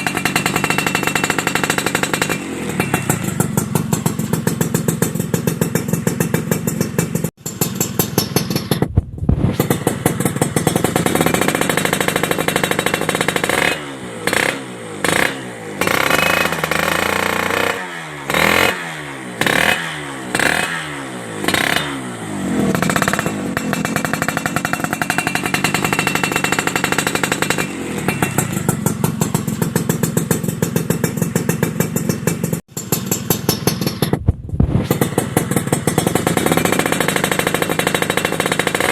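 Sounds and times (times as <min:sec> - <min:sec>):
motorcycle idling and revving: 0:00.0 - 0:38.9.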